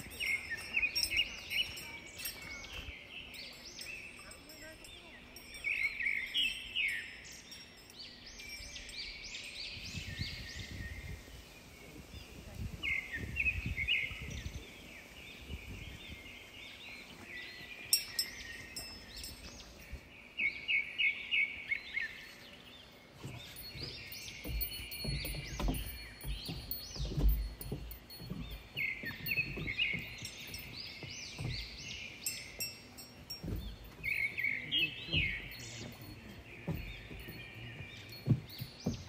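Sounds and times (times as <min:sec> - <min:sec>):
songbirds chirping: 0:00.0 - 0:39.0.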